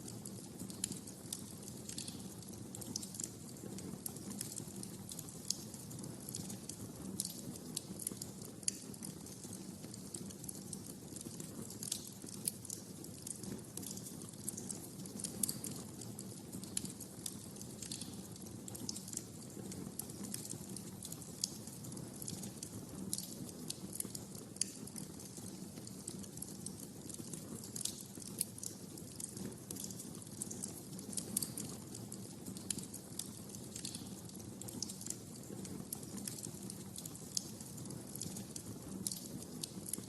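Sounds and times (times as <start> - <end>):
low rumble of flames: 0.0 - 40.0
wood fire crackling: 0.0 - 40.0.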